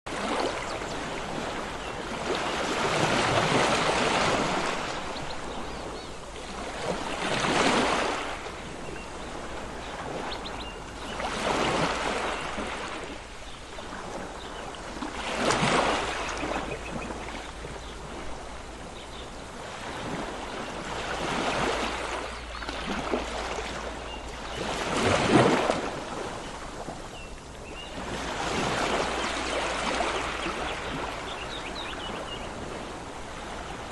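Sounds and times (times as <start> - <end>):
steady wash of water: 0.1 - 33.9
waves breaking: 0.1 - 33.9.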